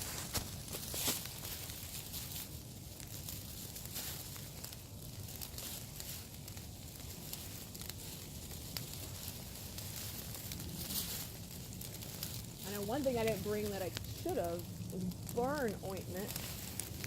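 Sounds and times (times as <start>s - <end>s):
light rain on leaves: 0.0s - 17.0s.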